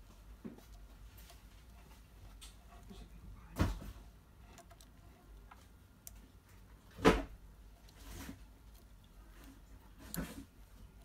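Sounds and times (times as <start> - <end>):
plastic parts ticking and rubbing: 0.2 - 11.0.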